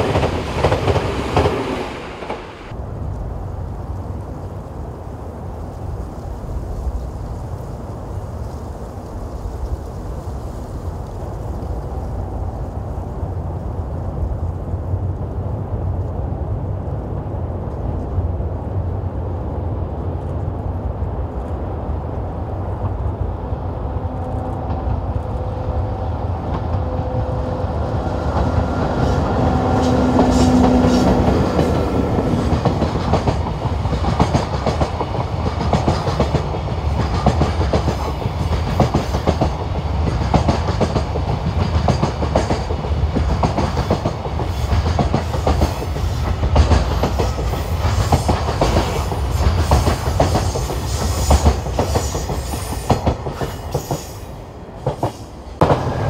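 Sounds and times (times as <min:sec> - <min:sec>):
locomotive hum: 0:00.0 - 0:56.0.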